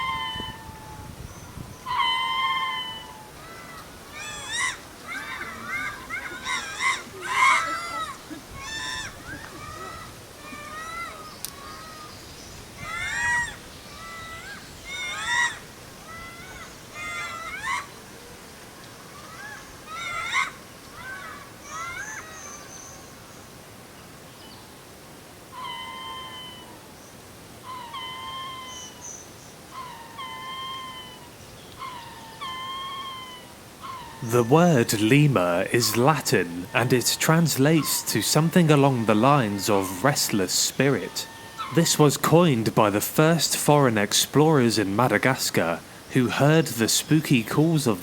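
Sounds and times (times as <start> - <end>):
lemurs howling: 0.0 - 1.2, 1.8 - 12.2, 12.8 - 18.0, 19.2 - 22.5, 25.5 - 26.8, 27.6 - 29.0, 29.7 - 46.8.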